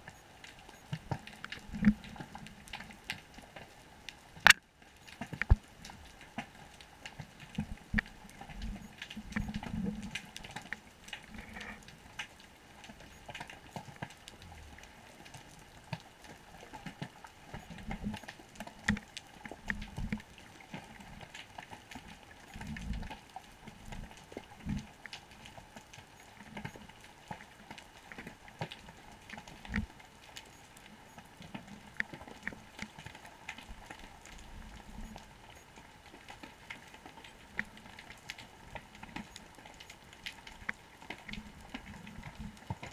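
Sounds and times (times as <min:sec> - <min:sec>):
underwater crackle of clicks and pops: 0:00.0 - 0:42.9.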